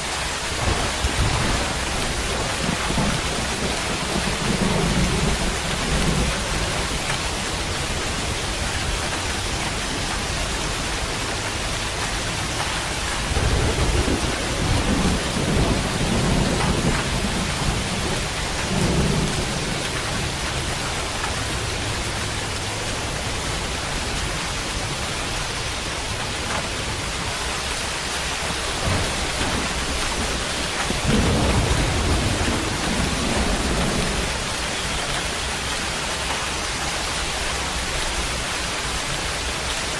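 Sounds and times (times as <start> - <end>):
steady rain: 0.0 - 39.9
thunder rumbling: 0.2 - 36.4.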